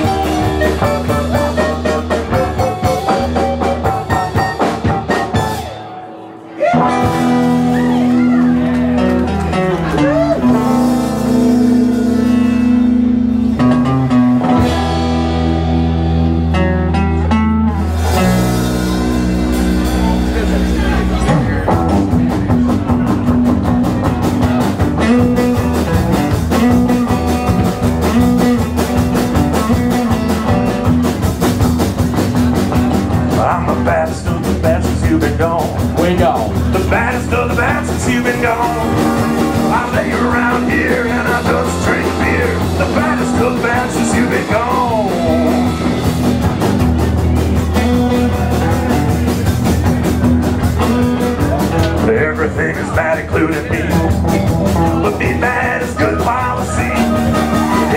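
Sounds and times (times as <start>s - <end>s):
rock and roll band playing: 0.0s - 57.9s.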